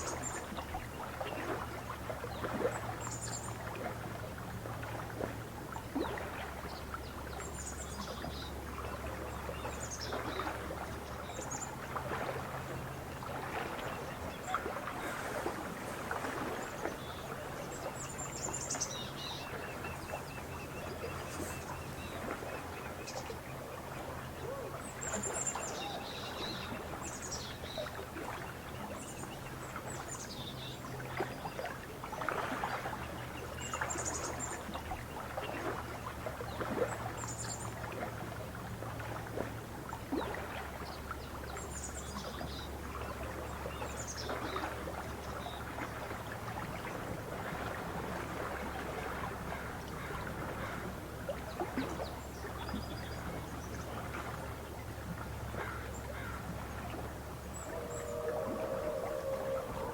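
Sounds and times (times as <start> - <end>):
water gently lapping: 0.0 - 59.9.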